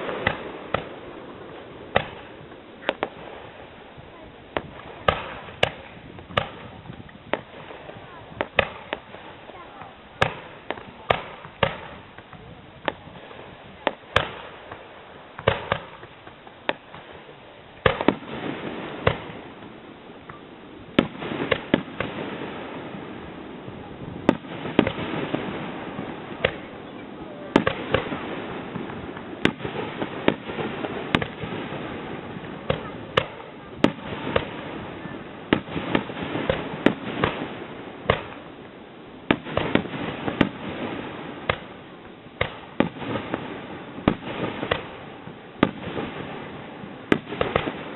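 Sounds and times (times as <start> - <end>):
fireworks booming: 0.0 - 47.9
fireworks crackling: 0.0 - 47.9.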